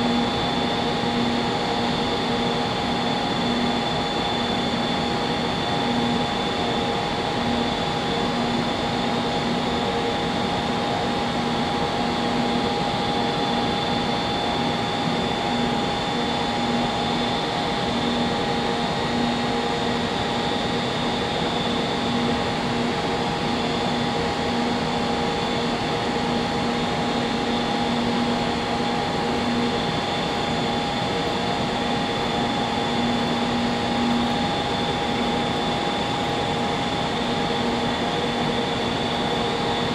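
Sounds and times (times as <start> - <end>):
train equipment whirring hum: 0.0 - 39.9.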